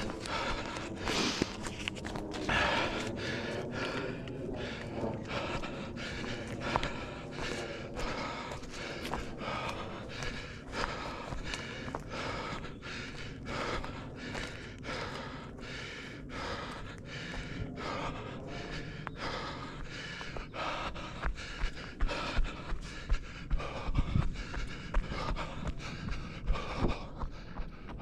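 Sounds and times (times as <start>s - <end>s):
runner panting: 0.0s - 28.0s.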